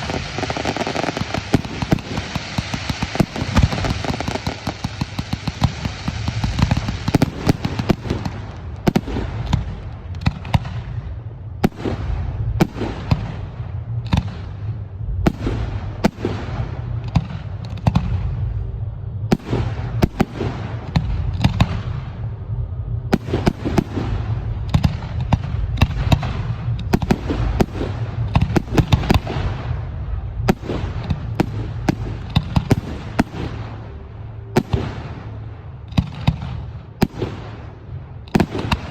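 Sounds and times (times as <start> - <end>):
fireworks bursts and bangs: 0.0 - 38.9
low rumble: 0.0 - 38.9.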